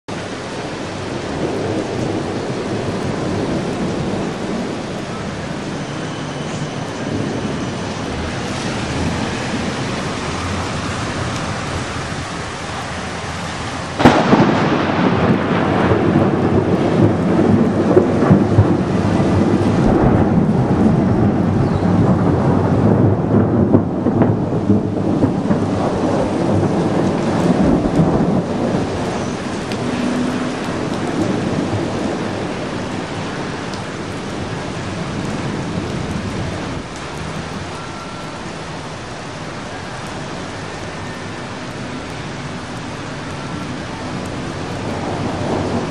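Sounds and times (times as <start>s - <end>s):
heavy rain: 0.0s - 45.9s
thunderclap and rumbling thunder: 0.2s - 45.9s.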